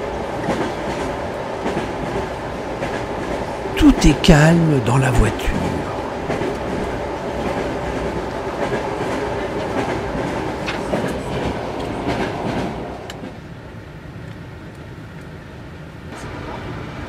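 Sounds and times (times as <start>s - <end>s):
train carriage rumbling on track: 0.0s - 17.0s.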